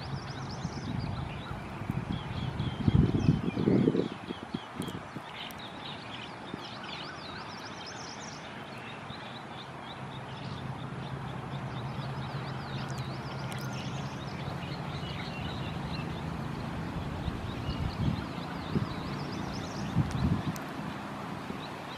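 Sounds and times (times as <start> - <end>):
outdoor background hiss: 0.0 - 21.9.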